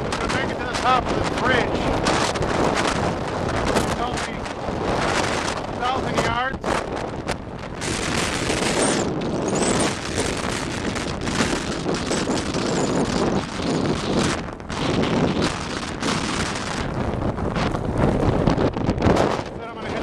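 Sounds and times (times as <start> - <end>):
blizzard wind buffeting microphone: 0.0 - 20.0.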